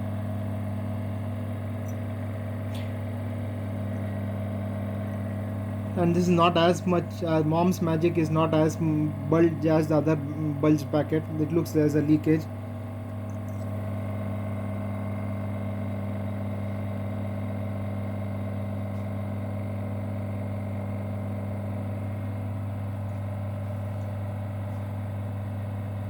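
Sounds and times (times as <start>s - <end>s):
vacuum pump humming: 0.0s - 26.0s.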